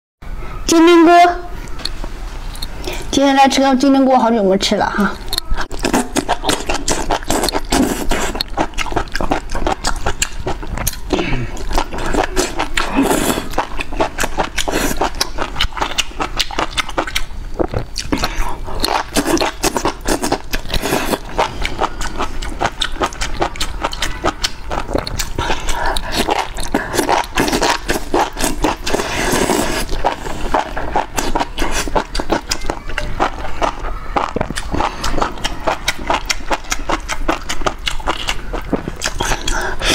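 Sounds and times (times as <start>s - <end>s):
slurping and chewing: 1.7s - 3.2s, 5.0s - 39.9s.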